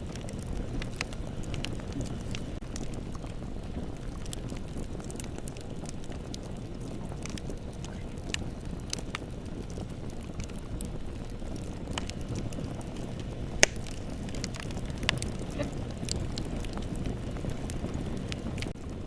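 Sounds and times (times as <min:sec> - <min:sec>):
bonfire flames rumbling: 0:00.0 - 0:19.0
burning wood popping: 0:00.0 - 0:19.0.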